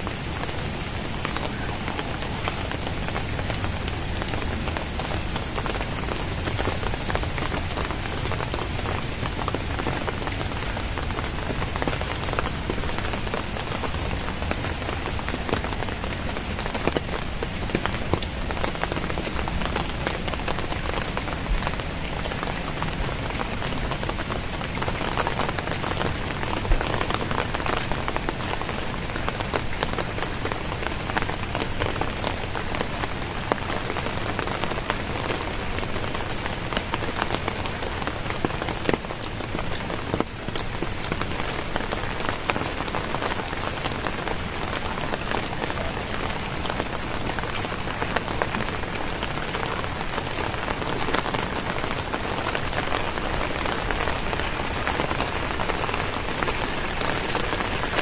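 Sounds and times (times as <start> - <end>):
heavy rain pouring: 0.0 - 58.0
raindrops tapping surfaces: 0.0 - 58.0.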